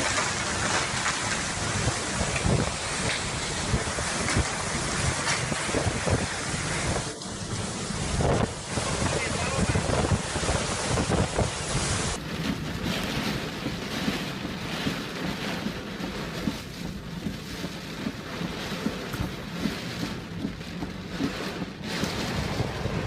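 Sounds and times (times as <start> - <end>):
hurricane wind blowing hard: 0.0 - 23.0
surf: 0.0 - 23.0
wind buffeting microphone: 0.0 - 23.0.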